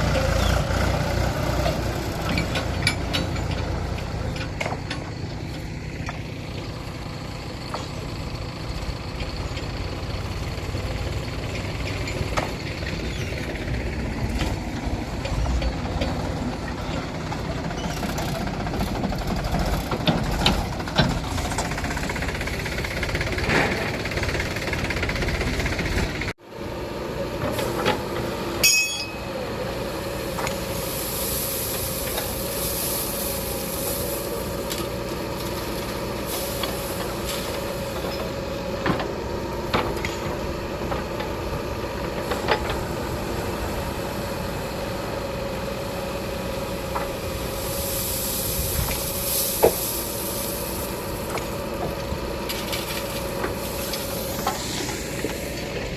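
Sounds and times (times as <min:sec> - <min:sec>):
diesel machinery running: 0:00.0 - 0:55.9.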